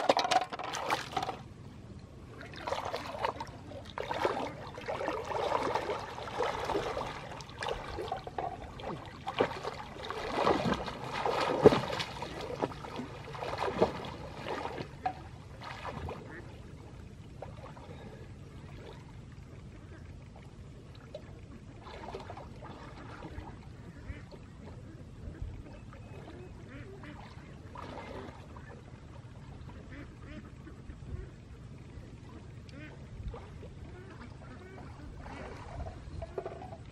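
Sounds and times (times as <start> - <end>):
water lapping: 0.0 - 36.9
water sloshing and splashing: 0.0 - 36.9.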